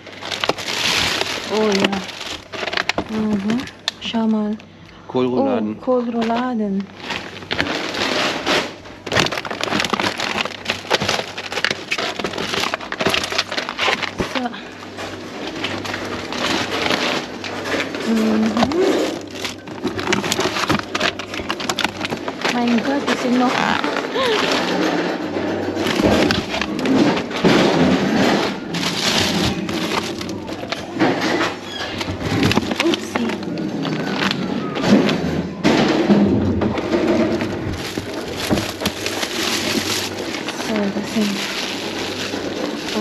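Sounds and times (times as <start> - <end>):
plastic packaging crinkling: 0.0 - 4.7, 6.0 - 43.0
knocks and crackles: 6.2 - 43.0.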